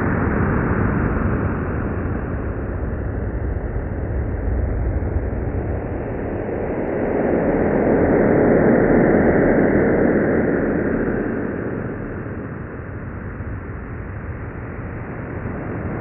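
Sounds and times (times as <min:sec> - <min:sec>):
noisy rumbling drone: 0:00.0 - 0:16.0.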